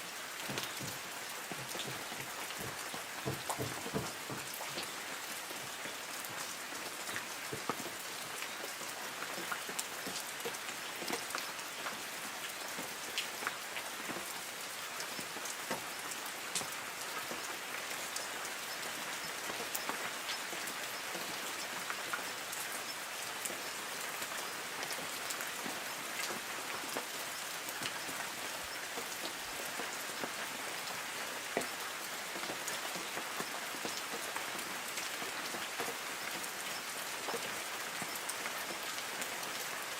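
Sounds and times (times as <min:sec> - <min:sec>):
light rain on trees: 0:00.0 - 0:39.9.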